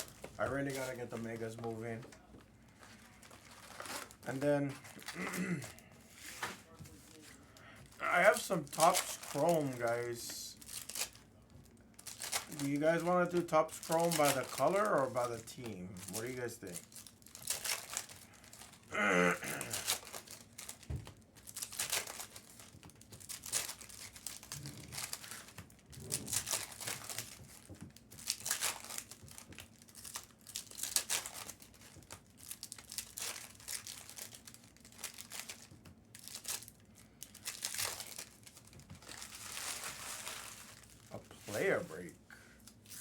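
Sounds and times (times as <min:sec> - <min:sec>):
foil wrappers crinkling and tearing: 0:00.0 - 0:43.0.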